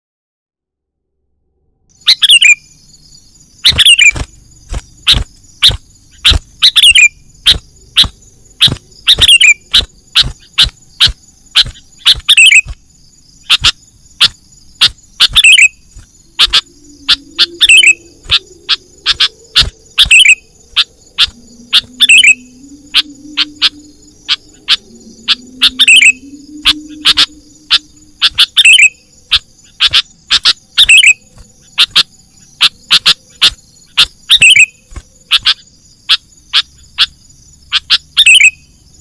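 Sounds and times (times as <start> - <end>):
high insect drone: 1.9 - 39.0
bird calling loud notes: 2.0 - 12.8, 13.4 - 38.7.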